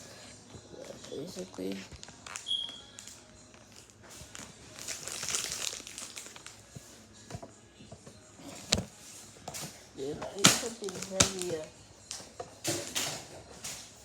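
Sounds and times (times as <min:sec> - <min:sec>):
objects clicking and rustling: 0:00.8 - 0:07.5, 0:08.5 - 0:14.0.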